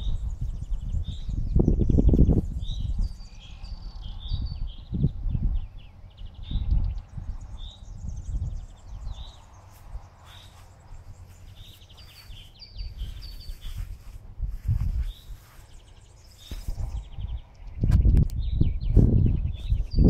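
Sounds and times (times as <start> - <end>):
small birds chirping: 0.0 - 20.0
wind buffeting microphone: 0.0 - 20.0.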